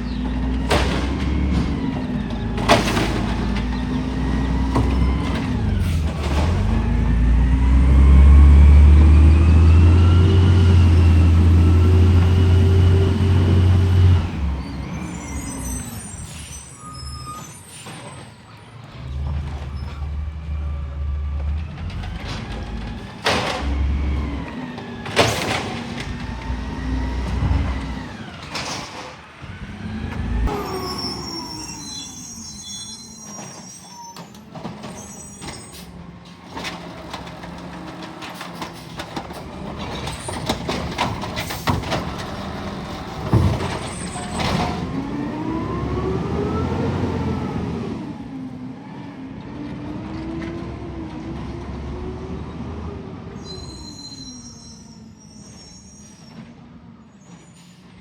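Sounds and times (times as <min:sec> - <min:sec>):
garbage truck engine revving: 0:00.0 - 0:16.3, 0:18.8 - 0:33.6, 0:34.5 - 0:53.8.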